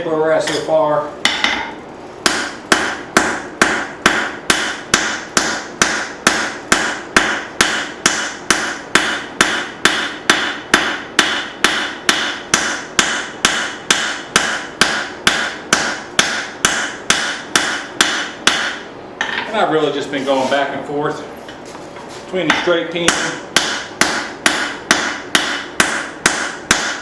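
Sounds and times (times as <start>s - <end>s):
hammer striking steel on anvil: 0.4s - 19.5s, 22.4s - 27.0s.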